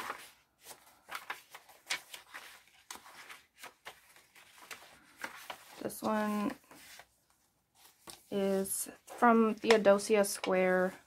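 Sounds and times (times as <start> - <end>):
paper pages rustling and flapping: 0.0 - 11.0.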